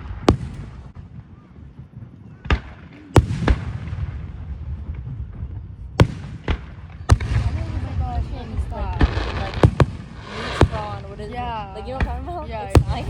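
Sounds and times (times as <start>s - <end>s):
fireworks bangs: 0.0s - 13.0s
rumbling echo: 0.0s - 13.0s.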